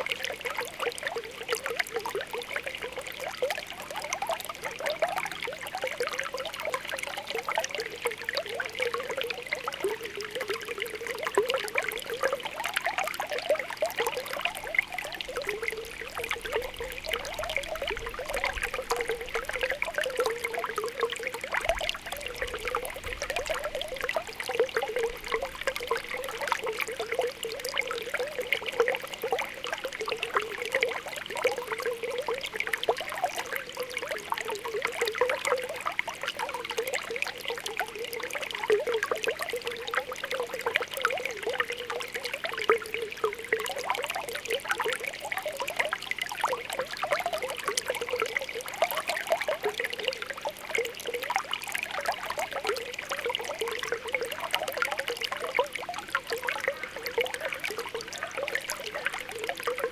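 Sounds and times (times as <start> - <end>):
spring water bubbling: 0.0 - 59.9.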